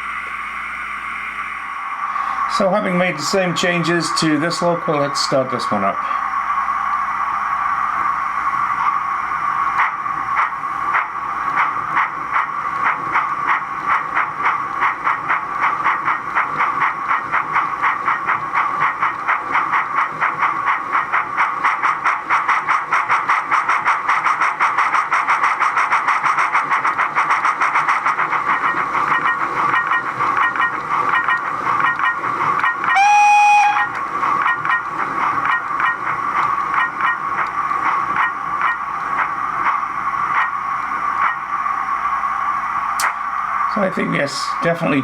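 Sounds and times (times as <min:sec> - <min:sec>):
steady steam hiss: 0:00.0 - 0:32.5, 0:36.1 - 0:45.0
model steam locomotive chuffs: 0:00.0 - 0:45.0.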